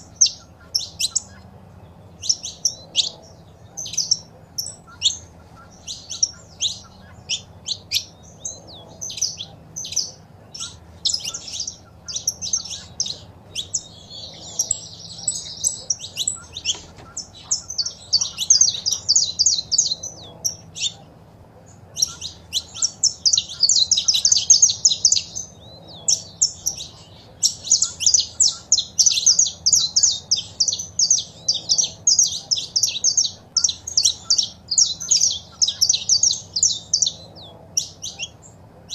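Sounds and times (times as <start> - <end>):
faint low steady hum: 0.0 - 38.9
finches chirping and trilling: 0.0 - 38.9.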